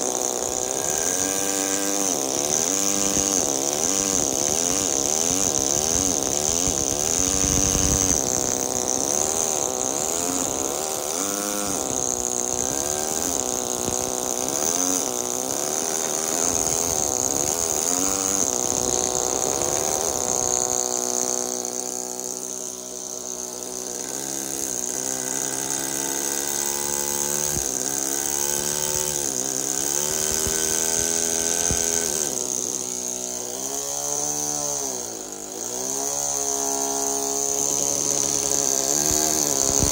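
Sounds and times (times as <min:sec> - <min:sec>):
pneumatic hammer chiseling marble: 0:00.0 - 0:39.9.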